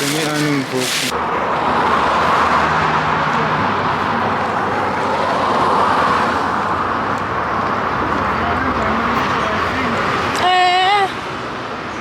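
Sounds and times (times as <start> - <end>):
road traffic rushing: 0.0 - 10.3.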